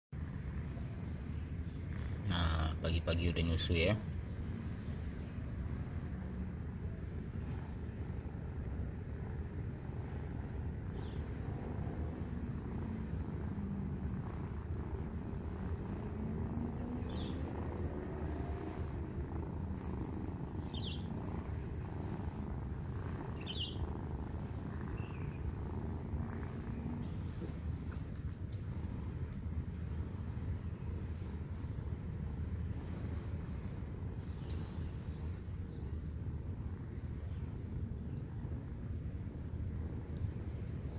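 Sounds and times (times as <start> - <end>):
cat purring: 0.2 - 40.9.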